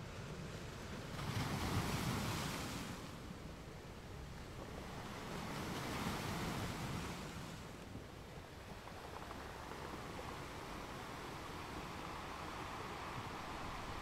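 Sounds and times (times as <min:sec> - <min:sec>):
ocean waves: 0:00.0 - 0:14.0.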